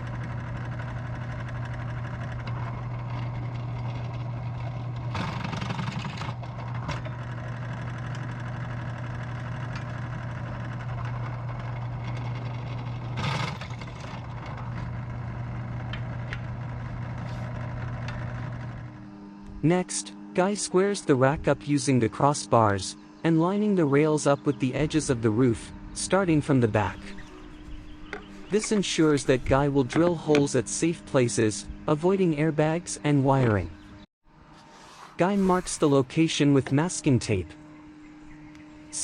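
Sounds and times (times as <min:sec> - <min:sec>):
machine hum: 0:00.0 - 0:39.0.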